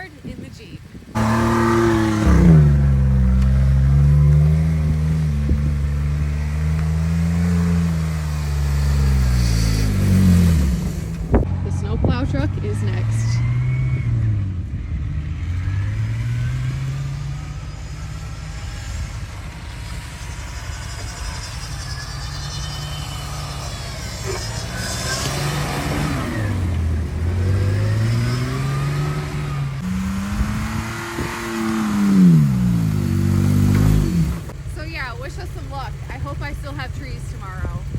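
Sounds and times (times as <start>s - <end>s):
car engine revving: 1.0s - 37.9s.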